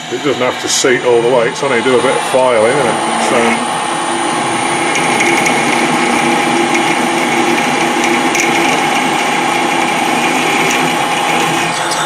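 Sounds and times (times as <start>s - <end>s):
metal lathe drilling with whine: 0.0s - 12.0s.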